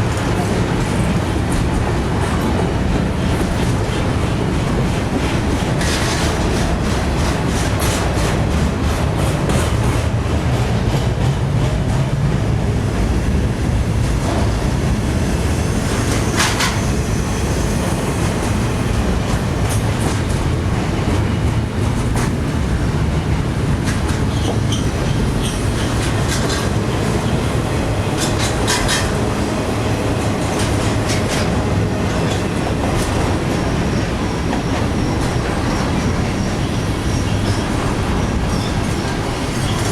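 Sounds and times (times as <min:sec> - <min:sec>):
wheels clacking over rail joints: 0:00.0 - 0:12.1, 0:13.8 - 0:39.9
freight train rumbling past: 0:00.0 - 0:39.9.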